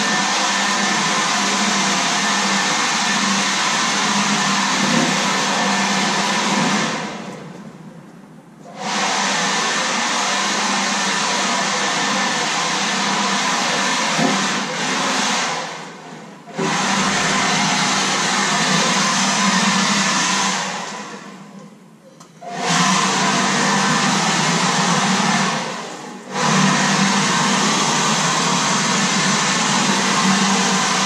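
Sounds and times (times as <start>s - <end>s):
electric leaf blower running: 0.0s - 7.2s, 8.7s - 21.3s, 22.4s - 31.0s.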